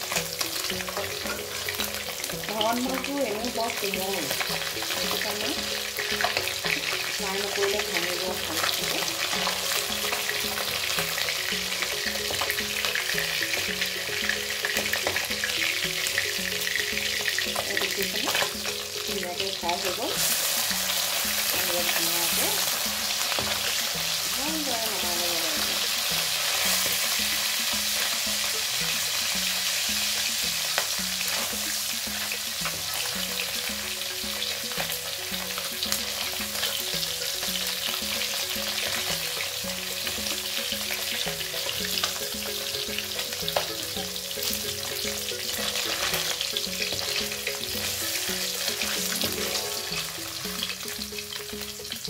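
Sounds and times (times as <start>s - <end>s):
fish sizzling in hot oil: 0.0s - 52.0s.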